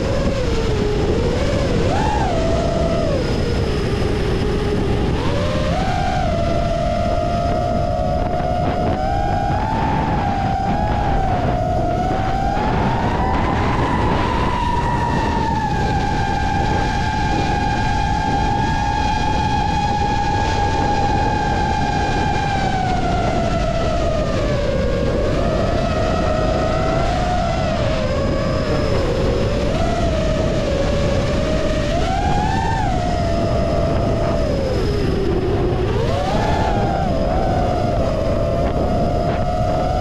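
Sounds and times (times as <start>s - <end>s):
quadcopter motors whining: 0.0s - 40.0s
wind buffeting microphone: 0.0s - 40.0s.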